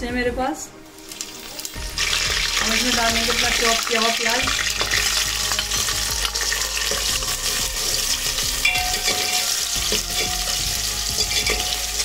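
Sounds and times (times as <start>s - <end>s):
onion sizzling in hot oil: 0.9s - 12.0s.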